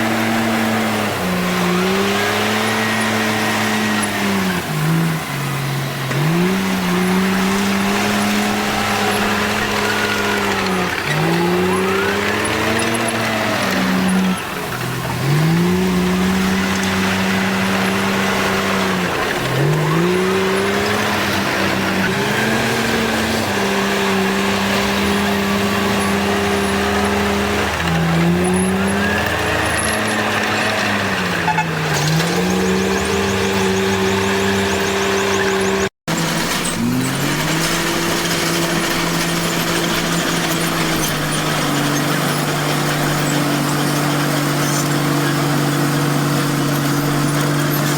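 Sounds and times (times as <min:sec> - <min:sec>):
bulldozer diesel engine under load: 0:00.0 - 0:47.9.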